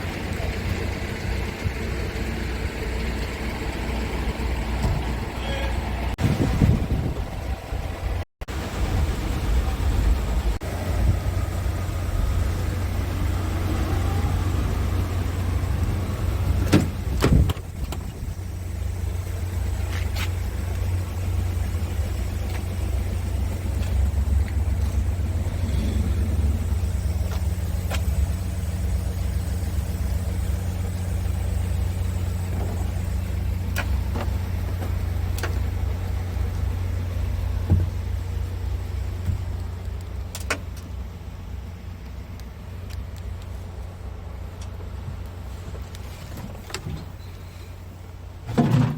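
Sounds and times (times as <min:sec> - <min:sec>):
diesel truck engine idling: 0:00.0 - 0:48.9.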